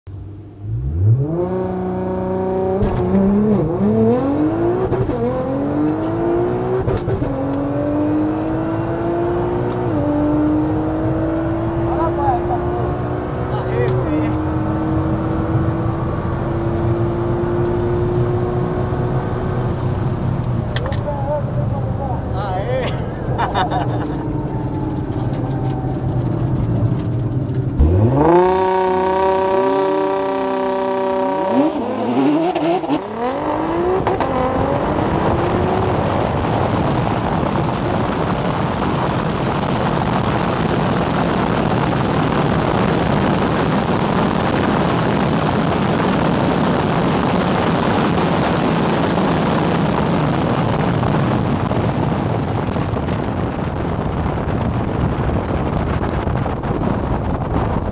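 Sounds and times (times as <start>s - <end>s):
car engine revving: 0.1s - 57.9s
wind and road noise: 0.1s - 57.9s.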